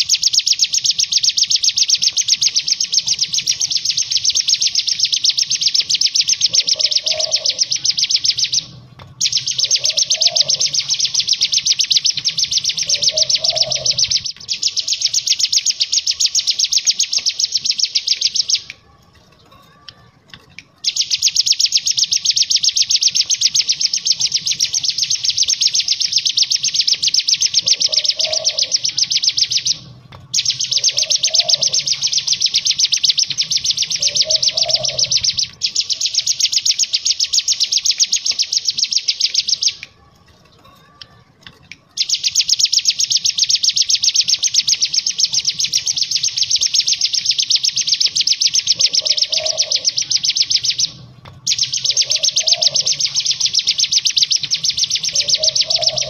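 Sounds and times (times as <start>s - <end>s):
bird singing rapid trills: 0.0s - 18.7s, 20.7s - 40.8s, 41.9s - 56.0s.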